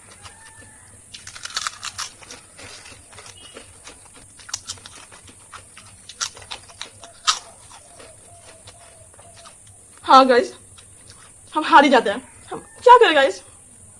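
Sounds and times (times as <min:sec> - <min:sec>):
potato chips being chewed: 0:00.0 - 0:11.6.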